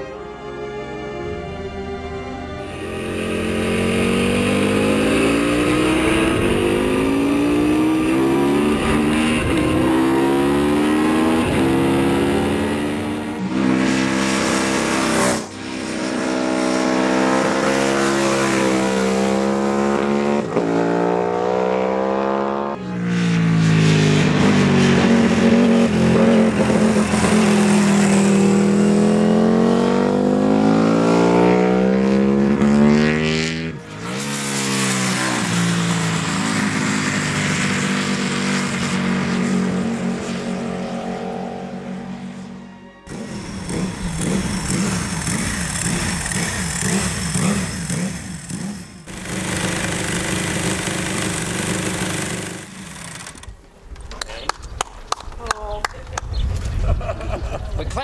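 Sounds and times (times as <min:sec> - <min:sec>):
racing motorbike engine revving: 0:02.5 - 0:53.6.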